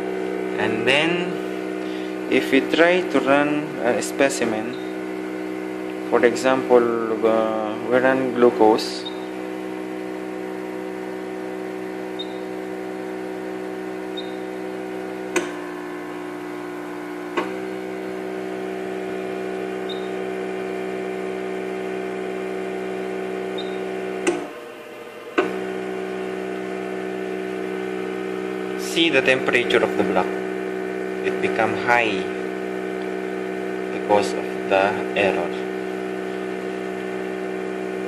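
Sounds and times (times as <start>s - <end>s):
pump motor humming: 0.0s - 38.0s.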